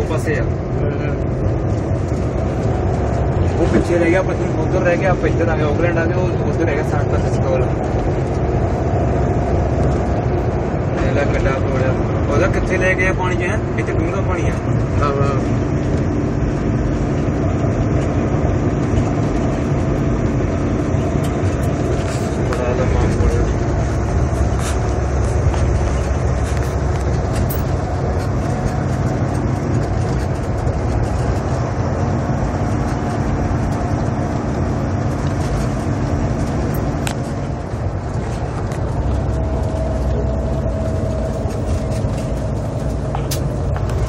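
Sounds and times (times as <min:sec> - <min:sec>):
truck engine rumble: 0:00.0 - 0:44.0.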